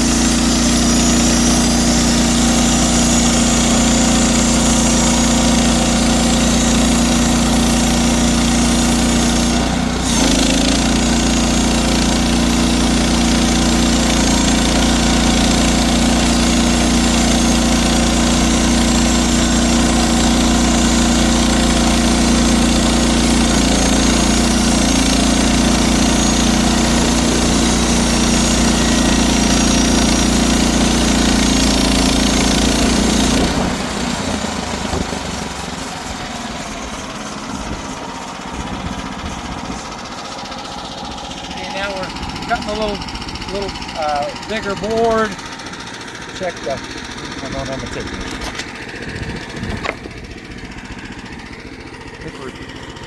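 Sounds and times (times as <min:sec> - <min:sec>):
saw blade cutting log: 0:00.0 - 0:53.0
sawmill engine running: 0:00.0 - 0:53.0.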